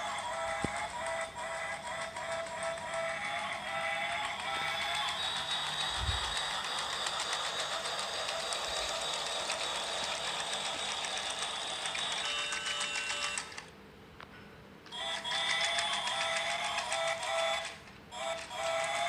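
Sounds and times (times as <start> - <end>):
toy train motor whining and clicking: 0.0 - 13.7, 14.9 - 19.0.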